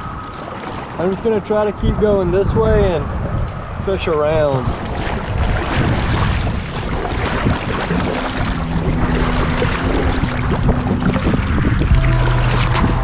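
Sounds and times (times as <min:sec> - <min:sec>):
water slapping kayak: 0:00.0 - 0:02.2, 0:03.9 - 0:13.0
wind buffeting microphone: 0:00.0 - 0:13.0.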